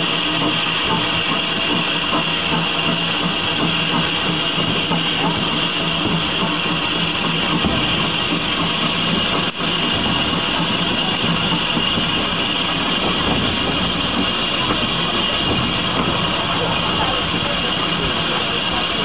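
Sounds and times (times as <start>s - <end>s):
steam locomotive running: 0.0s - 19.0s.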